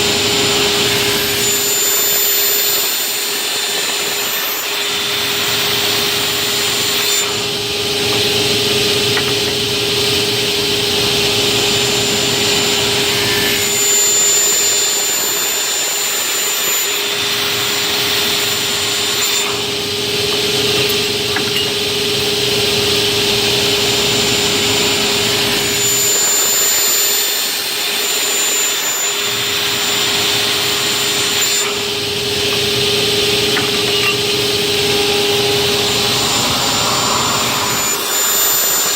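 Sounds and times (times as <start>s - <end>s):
cutting saw whining: 0.0s - 38.9s.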